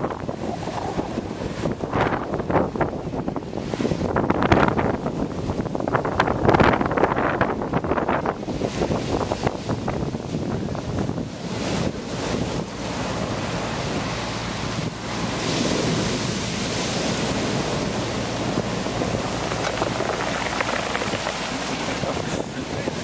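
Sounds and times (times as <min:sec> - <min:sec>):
foaming water washing: 0:00.0 - 0:23.0
surf breaking on shore: 0:00.0 - 0:23.0
wind blowing over microphone: 0:00.0 - 0:23.0.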